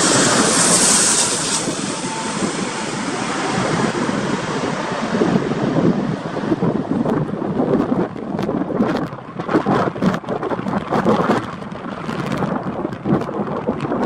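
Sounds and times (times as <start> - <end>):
storm wind buffeting microphone: 0.0 - 14.0.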